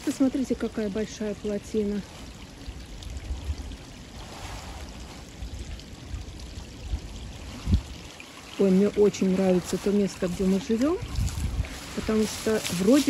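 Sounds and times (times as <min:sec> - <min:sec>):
stream water trickling over dam: 0:00.0 - 0:13.0.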